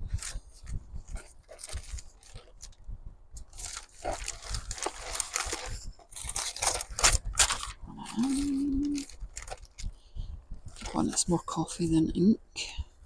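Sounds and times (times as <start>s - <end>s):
paper rustling and crinkling: 0.0s - 2.8s, 3.4s - 12.0s.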